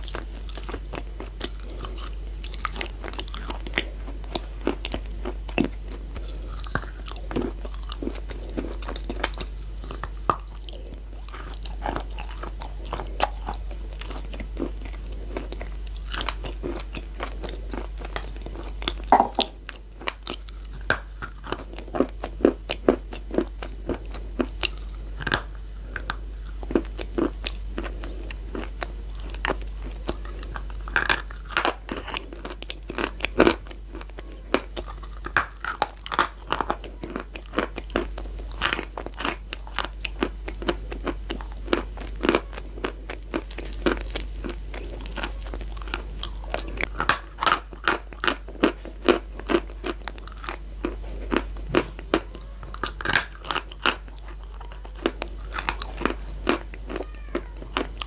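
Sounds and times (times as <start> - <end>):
chewing chalk crunching: 0.0 - 58.0.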